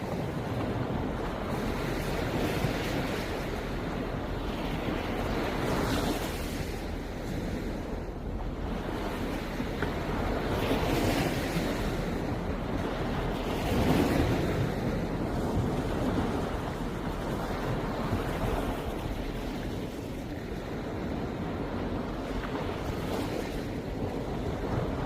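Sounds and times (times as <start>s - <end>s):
sea waves washing onto shore: 0.0s - 25.0s
wind rumbling on microphone: 0.0s - 25.0s.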